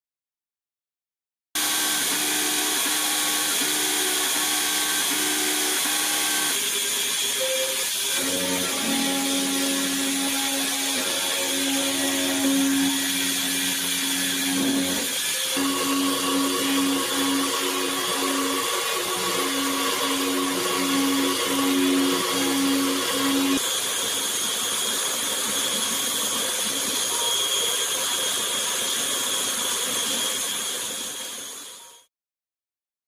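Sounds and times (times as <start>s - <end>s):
milling machine whining and cutting: 1.6s - 32.1s.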